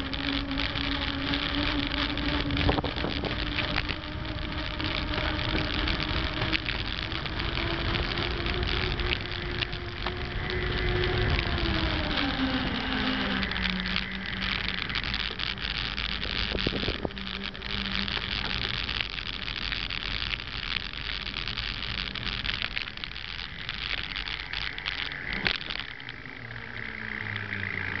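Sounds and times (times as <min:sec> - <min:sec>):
bike tyres whining on pavement: 0:00.0 - 0:28.0
wind on microphone: 0:00.0 - 0:28.0.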